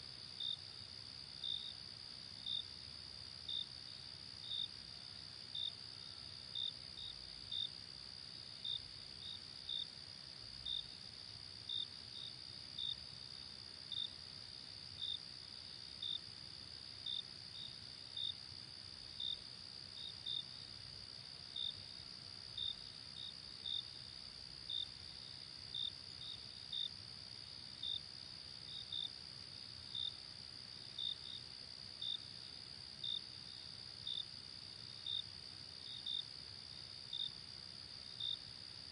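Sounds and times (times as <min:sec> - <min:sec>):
cricket chirps: 0:00.0 - 0:38.9.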